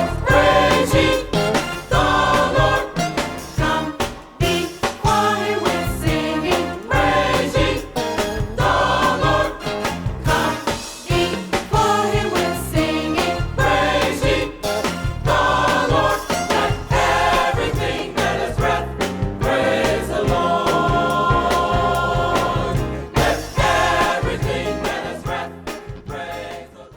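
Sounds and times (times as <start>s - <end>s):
steady beat: 0.0s - 26.2s
choir singing gospel music: 0.0s - 26.9s.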